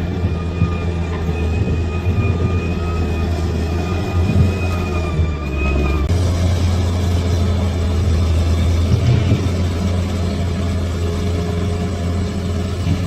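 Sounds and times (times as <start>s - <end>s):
bulldozer diesel engine droning: 0.0s - 13.0s.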